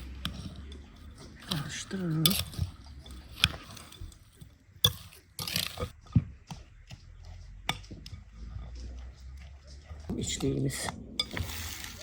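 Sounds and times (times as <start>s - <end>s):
wet scraping in a bowl: 0.0s - 7.0s, 7.7s - 12.0s.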